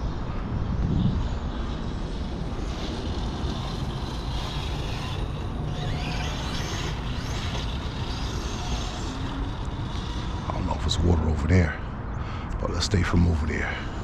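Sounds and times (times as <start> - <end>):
electric motor whine: 0.0 - 11.3.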